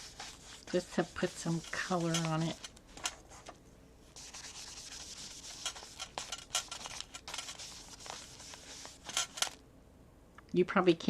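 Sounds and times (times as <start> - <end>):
pad rubbing on paper: 0.0 - 9.6.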